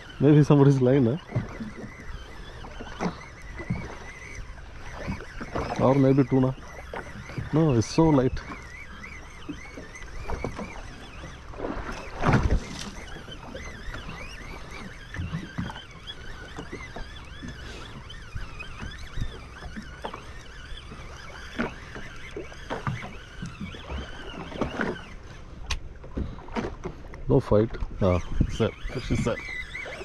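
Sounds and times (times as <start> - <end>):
fishing reel whirring and clicking: 0.0 - 30.0
water slapping against boat hull: 0.0 - 30.0.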